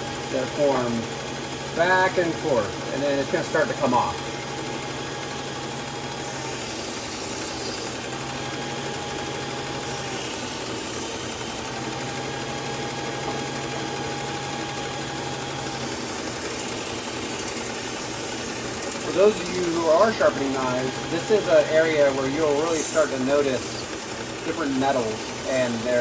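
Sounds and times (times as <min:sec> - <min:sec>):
belt sharpener motor hum: 0:00.0 - 0:26.0.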